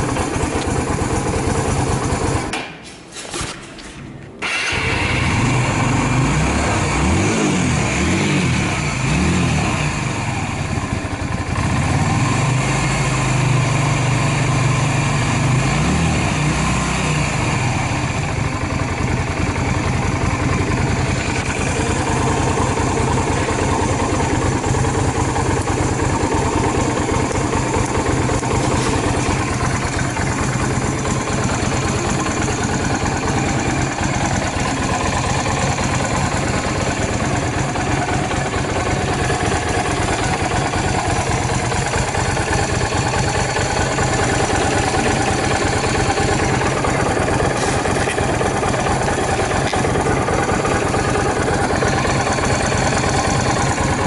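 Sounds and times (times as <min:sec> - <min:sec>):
motorcycle engine idling: 0:00.0 - 0:02.5, 0:04.5 - 0:54.0.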